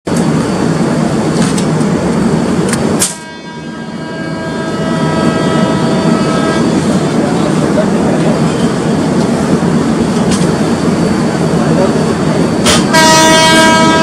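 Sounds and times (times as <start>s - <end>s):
standing train rumble and hum: 0.0s - 14.0s
multi-tone whine: 0.1s - 14.0s.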